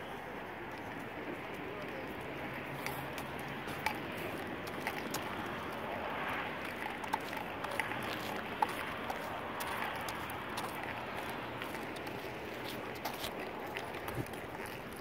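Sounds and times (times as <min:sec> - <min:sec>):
distant road traffic: 0:00.0 - 0:15.0
wind: 0:00.0 - 0:15.0.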